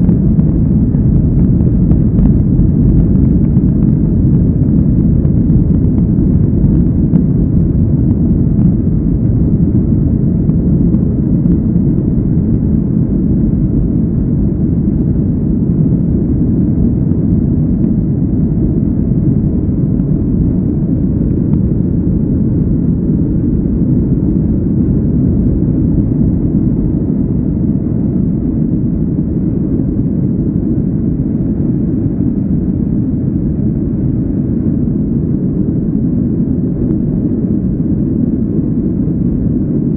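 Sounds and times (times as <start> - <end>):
jet engines rumbling in cabin: 0.0 - 39.9
rush of air: 0.0 - 39.9.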